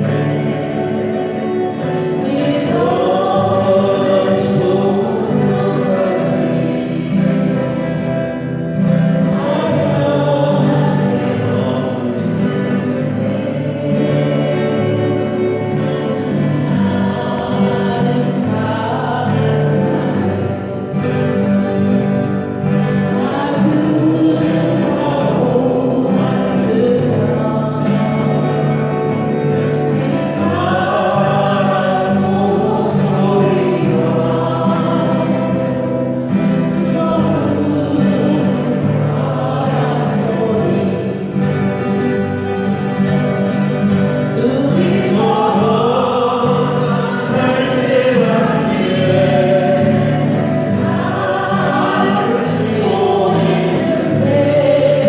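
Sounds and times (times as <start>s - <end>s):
group singing ballad: 0.0s - 55.0s
strummed acoustic guitars: 0.0s - 55.0s.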